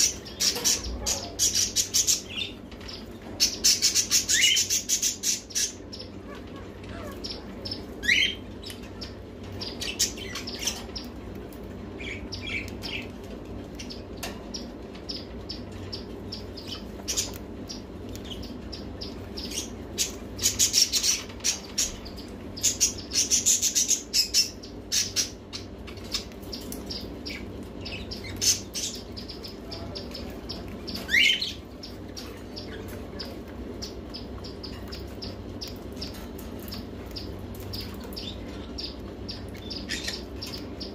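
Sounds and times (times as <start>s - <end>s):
parakeet chirping and squawking: 0.0s - 40.9s.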